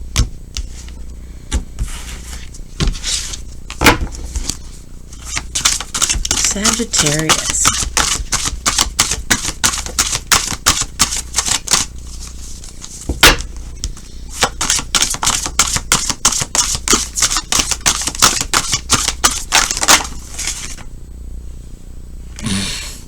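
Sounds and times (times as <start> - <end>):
cards being shuffled: 0.5 - 20.9.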